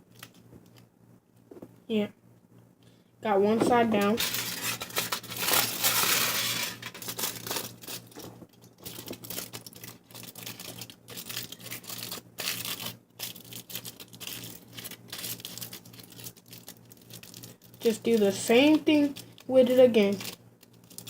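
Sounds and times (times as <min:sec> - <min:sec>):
aluminum foil crinkling: 0:03.6 - 0:21.0.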